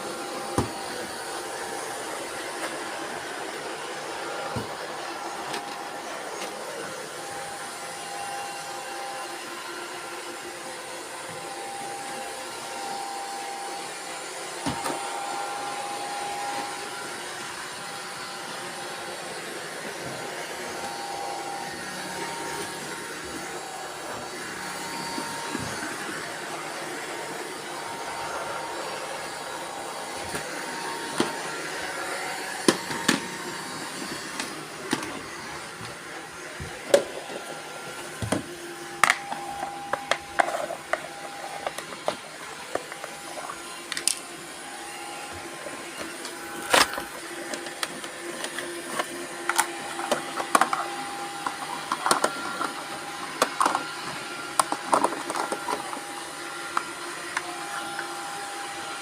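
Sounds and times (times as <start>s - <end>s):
robot vacuum cleaners whirring: 0.0s - 59.0s.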